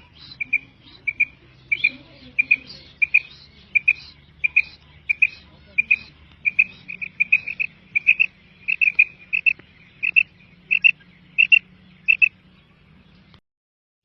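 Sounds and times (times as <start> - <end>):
quail chirping: 0.0 - 13.4.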